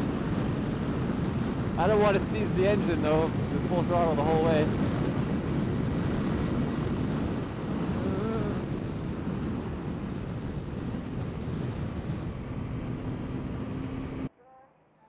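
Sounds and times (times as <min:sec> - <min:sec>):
motorcycle engine at full throttle: 0:00.0 - 0:14.3
wind rushing: 0:00.0 - 0:14.3.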